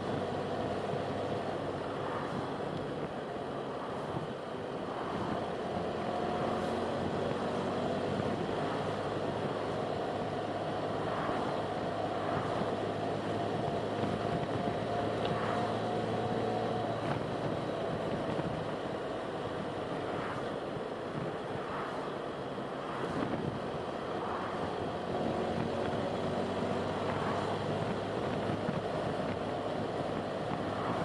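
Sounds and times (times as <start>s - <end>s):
low engine hum: 0.0s - 31.0s
road and wind noise: 0.0s - 31.0s.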